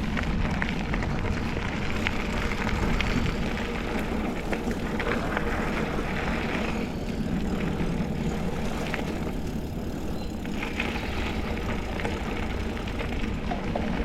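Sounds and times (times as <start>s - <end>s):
bike clicks and rattles: 0.0s - 14.0s
wind and tyre rumble: 0.0s - 14.0s.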